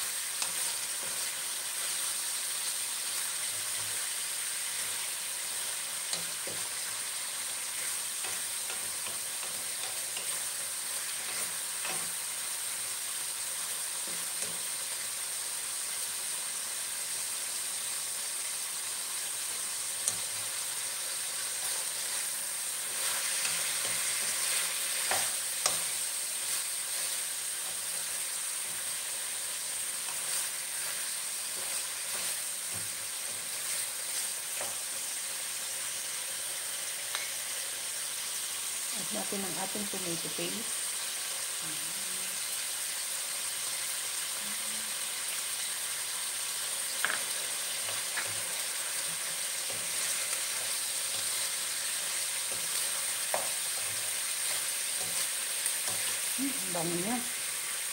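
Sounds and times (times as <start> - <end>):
meat sizzling in a pan: 0.0 - 57.9.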